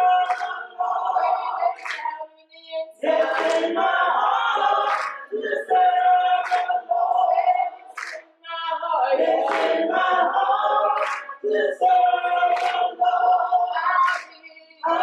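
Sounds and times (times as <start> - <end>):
hand claps: 0.0 - 2.3, 3.0 - 8.4, 9.2 - 15.0
choir singing a cappella: 0.0 - 15.0.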